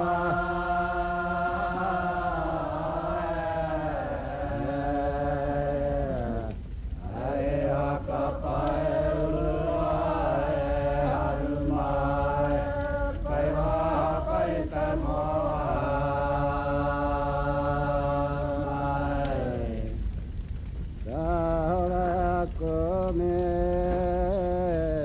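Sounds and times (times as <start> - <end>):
chanting on a held pitch: 0.0 - 20.0.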